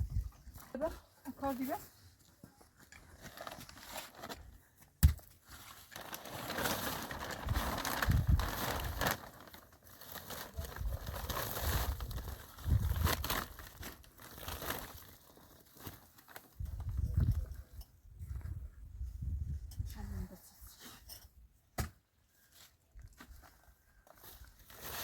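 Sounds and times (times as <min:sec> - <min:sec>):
crinkling rustling handling noise: 0:00.2 - 0:17.6, 0:22.3 - 0:25.0.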